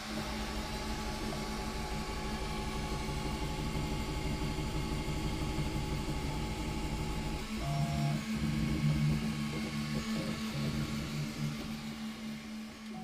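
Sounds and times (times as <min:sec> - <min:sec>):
cooling fans humming: 0:00.0 - 0:13.0.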